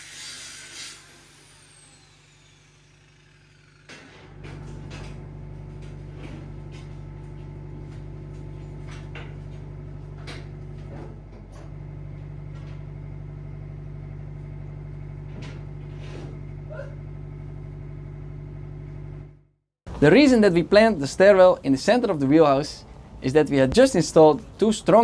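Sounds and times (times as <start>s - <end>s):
low machine hum: 1.2s - 25.0s.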